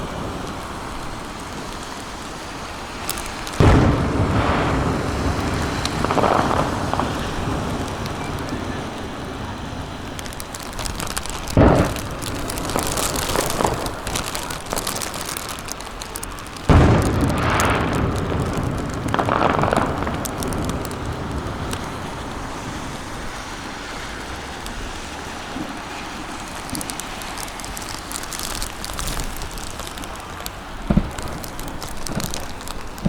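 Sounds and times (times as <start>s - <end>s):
fireworks booming with echo: 0.0s - 24.9s, 25.5s - 33.0s
crackling sparks: 0.0s - 33.0s
rumble of fireworks bursts: 0.0s - 33.0s.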